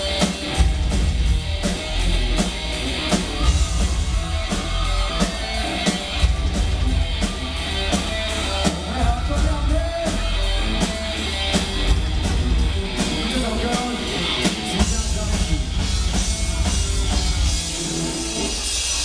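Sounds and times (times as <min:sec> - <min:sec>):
distorted electric guitars: 0:00.0 - 0:19.0
heavy drum kit: 0:00.0 - 0:19.0.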